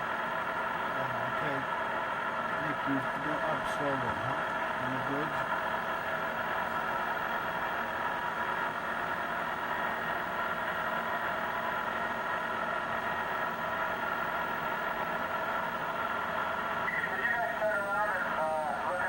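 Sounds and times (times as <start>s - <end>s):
submersible machinery hum: 0.0s - 19.0s.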